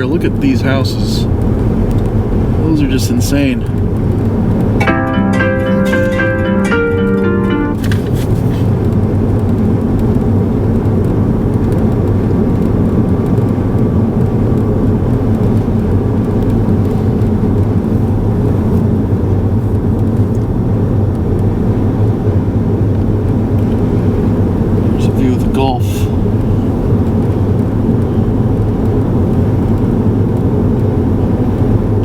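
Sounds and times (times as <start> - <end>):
car interior road rumble: 0.0 - 4.9, 7.7 - 32.0.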